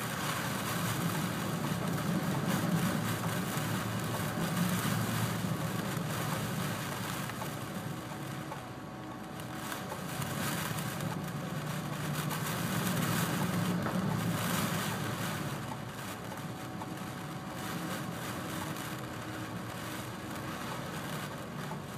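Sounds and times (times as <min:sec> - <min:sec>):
low machinery hum: 0:00.0 - 0:21.9.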